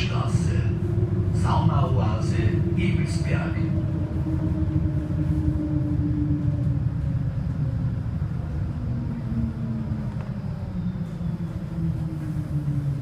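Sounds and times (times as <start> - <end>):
bus engine rumble with whine: 0.0 - 13.0.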